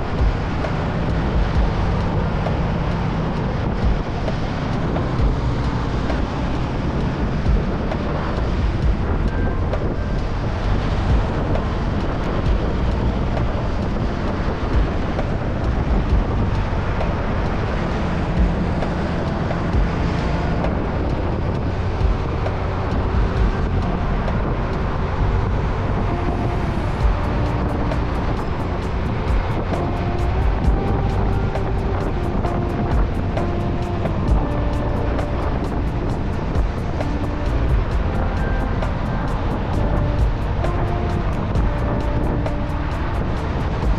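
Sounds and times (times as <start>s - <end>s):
motorcycle engine running: 0.0s - 43.9s
wind on microphone: 0.0s - 43.9s.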